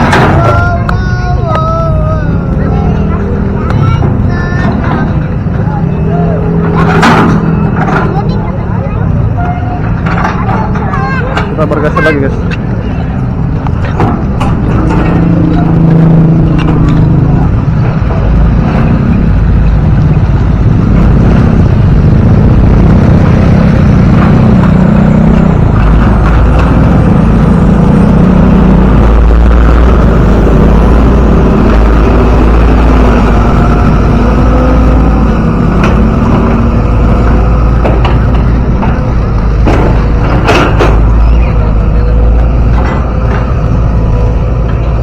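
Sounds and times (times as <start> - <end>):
heavy low rumble: 0.0 - 45.0
vehicle engine revving: 0.0 - 45.0.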